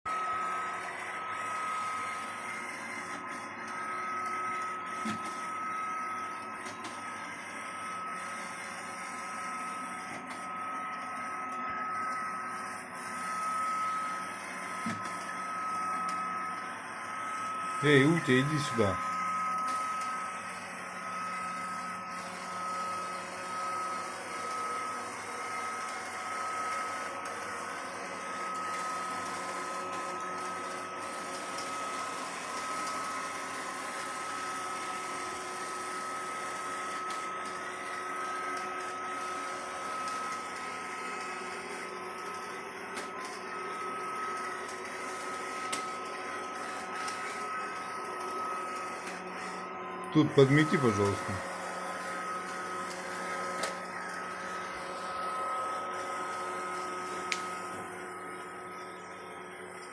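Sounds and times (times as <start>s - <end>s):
robot vacuum cleaner whining: 0.1s - 59.9s.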